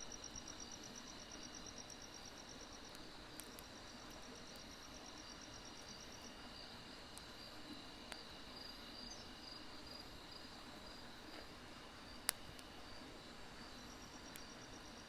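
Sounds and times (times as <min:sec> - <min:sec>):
crickets trilling: 0:00.0 - 0:15.0
firewood crackle: 0:00.1 - 0:15.0.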